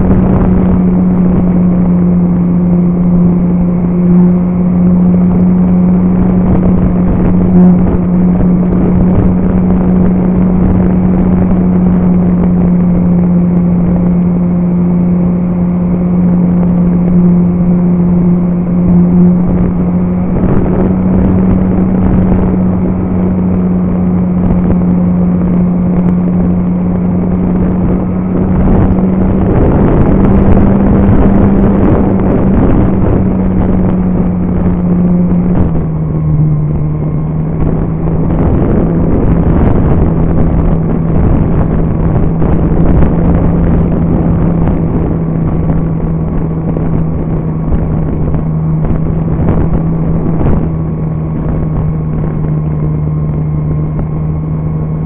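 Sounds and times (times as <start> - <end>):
wind rushing: 0.0 - 55.0.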